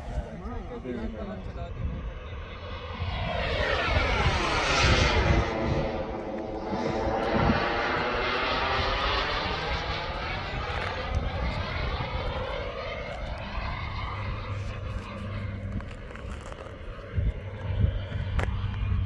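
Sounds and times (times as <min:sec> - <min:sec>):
model jet turbine flying past: 0:00.0 - 0:19.0.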